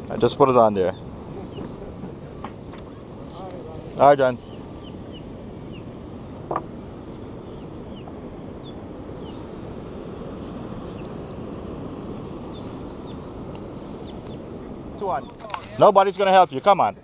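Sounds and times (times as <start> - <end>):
ocean surf: 0.0 - 17.0
wind on microphone: 0.0 - 17.0.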